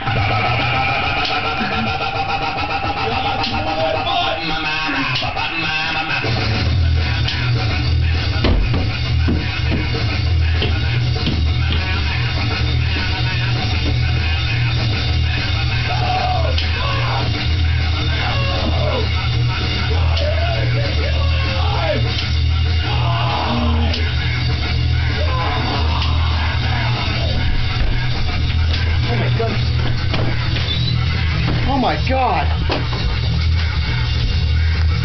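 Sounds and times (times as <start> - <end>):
loud rock music: 0.0 - 35.0.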